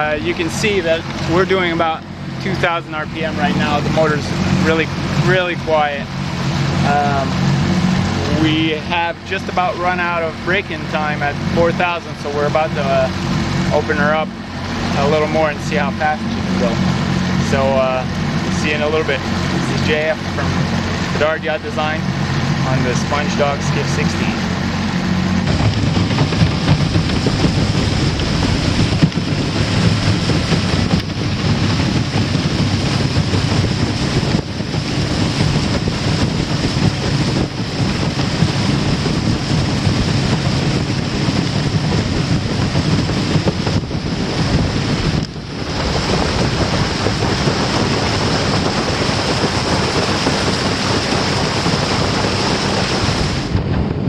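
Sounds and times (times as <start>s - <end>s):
outboard motor drone: 0.0s - 54.0s
rushing water: 0.0s - 54.0s
wind buffeting microphone: 0.0s - 54.0s.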